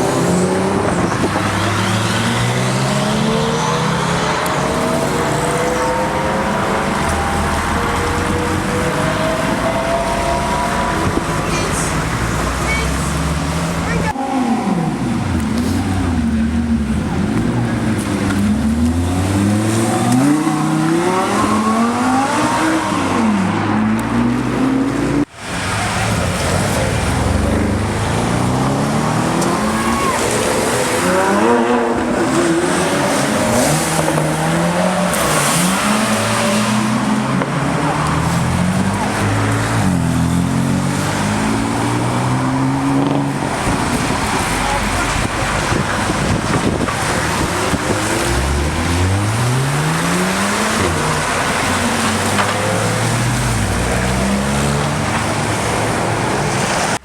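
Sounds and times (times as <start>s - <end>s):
car engines accelerating hard: 0.0s - 57.0s.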